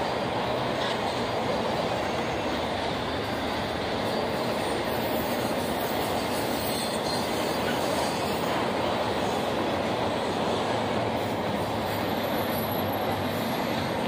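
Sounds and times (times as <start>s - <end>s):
train wheels on rail: 0.0s - 14.0s.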